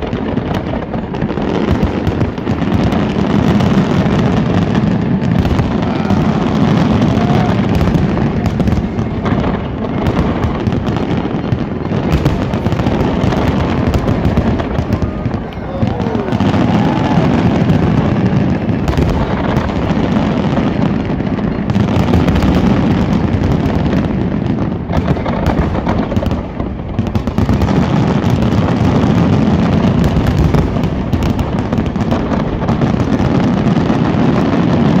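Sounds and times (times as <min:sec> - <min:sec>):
fireworks booms and crackles: 0:00.0 - 0:35.0.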